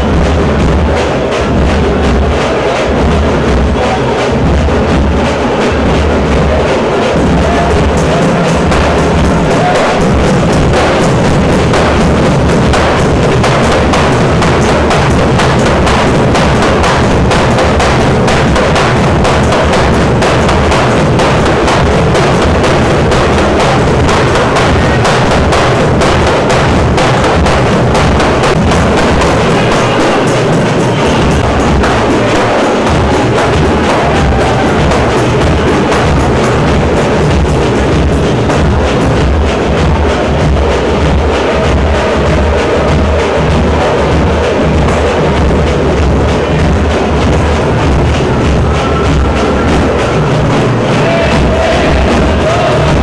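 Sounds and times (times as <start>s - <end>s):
music with fast drumming: 0.0s - 53.0s.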